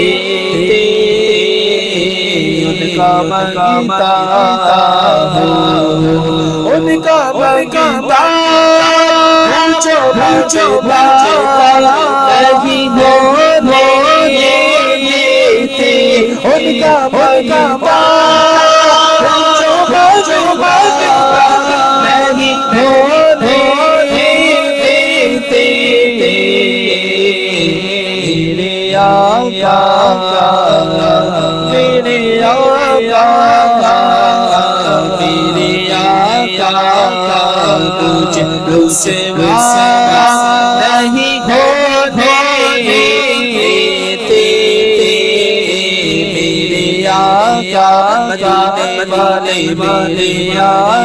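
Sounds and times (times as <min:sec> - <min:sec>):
man singing unaccompanied: 0:00.0 - 0:51.0.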